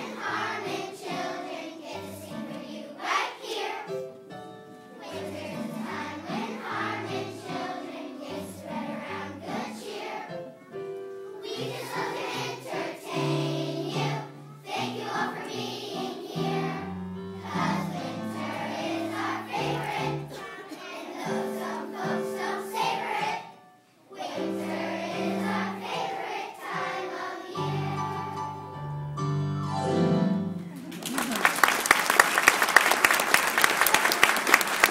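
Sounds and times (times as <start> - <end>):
children's choir singing: 0.0 - 10.6, 11.2 - 28.8.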